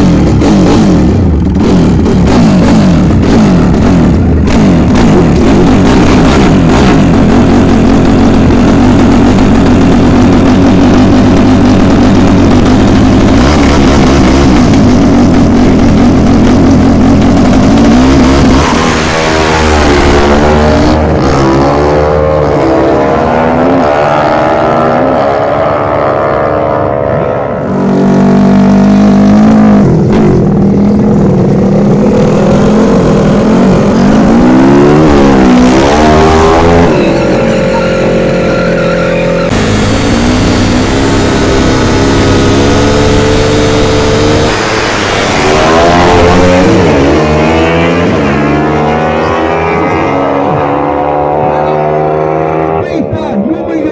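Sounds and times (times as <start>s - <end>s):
racing motorcycle engines revving: 0.0s - 53.9s.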